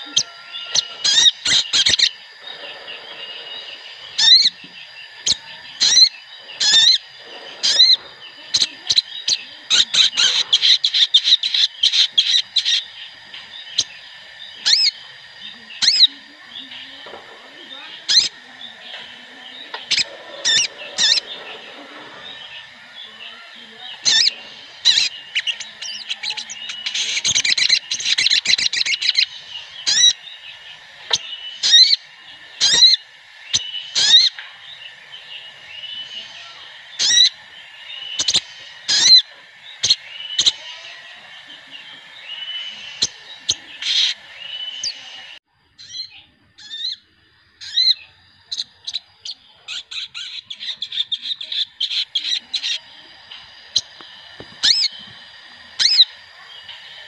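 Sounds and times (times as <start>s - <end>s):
high drone: 0.0s - 45.5s, 46.8s - 57.0s
bird calls: 0.0s - 57.0s
bird chattering: 0.0s - 57.0s.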